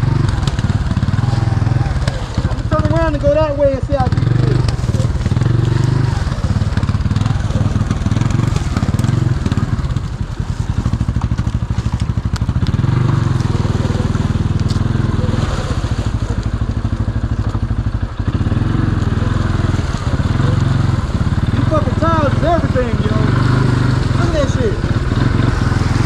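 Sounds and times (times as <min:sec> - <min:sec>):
engine pulsing rumble: 0:00.0 - 0:26.0.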